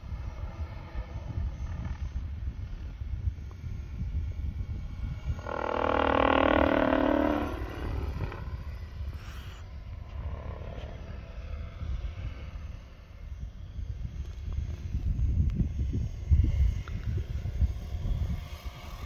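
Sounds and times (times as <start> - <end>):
model helicopter flying past: 0.0 - 19.0.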